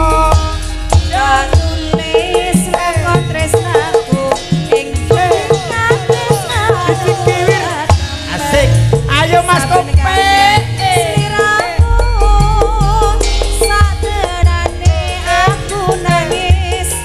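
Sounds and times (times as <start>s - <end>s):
repeated gamelan note: 0.0s - 17.0s.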